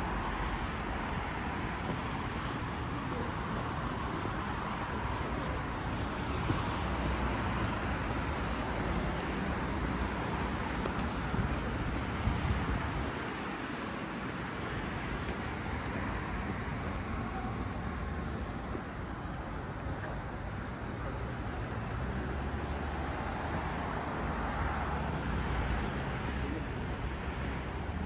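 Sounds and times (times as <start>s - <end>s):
cars passing: 0.0s - 28.0s
road traffic noise: 0.0s - 28.0s.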